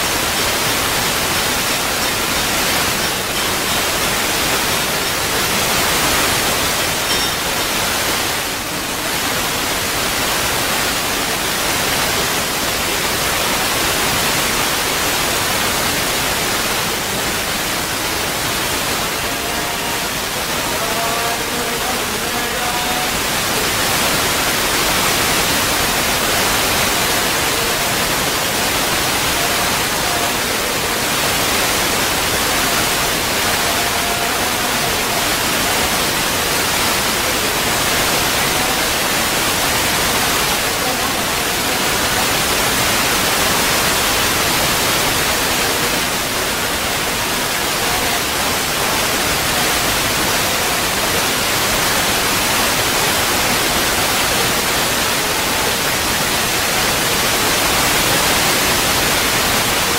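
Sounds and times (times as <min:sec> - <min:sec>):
loud static hiss: 0:00.0 - 0:59.9.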